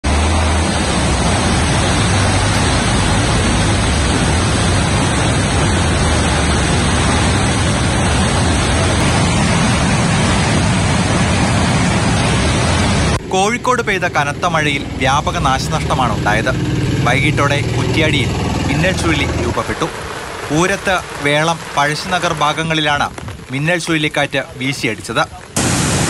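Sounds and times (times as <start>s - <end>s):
floodwater rushing over road: 0.0s - 26.0s.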